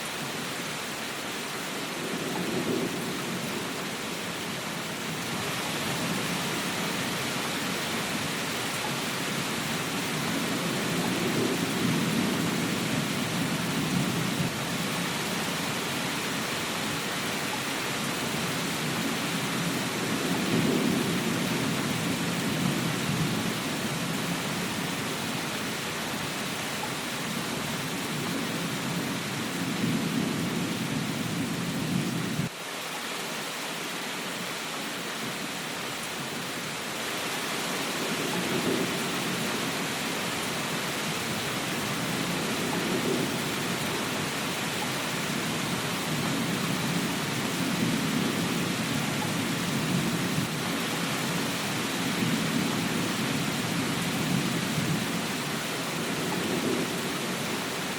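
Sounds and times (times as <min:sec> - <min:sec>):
rain hiss: 0:00.0 - 0:57.9.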